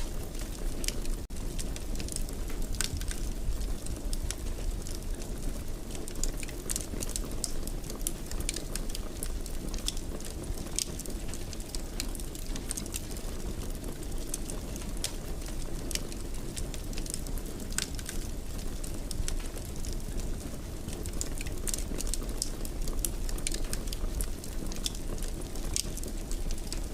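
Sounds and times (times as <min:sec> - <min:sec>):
fire crackles and pops: 0:00.0 - 0:26.9
wood fire rumbling: 0:00.0 - 0:26.9.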